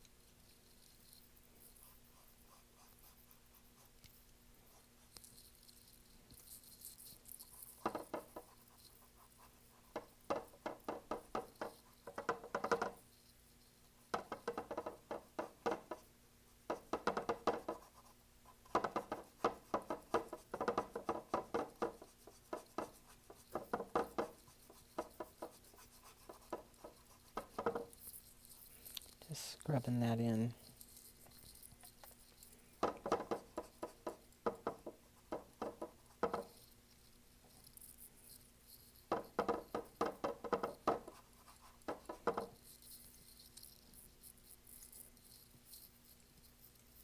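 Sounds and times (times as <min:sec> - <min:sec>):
paintbrush scrubbing canvas: 0:00.4 - 0:30.0, 0:30.6 - 0:47.0.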